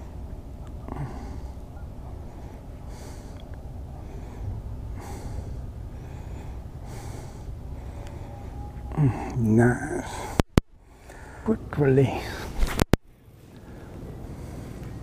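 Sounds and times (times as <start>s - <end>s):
man breathing noisily: 0.0s - 11.5s, 13.4s - 15.0s
steady low rumble: 0.0s - 15.0s.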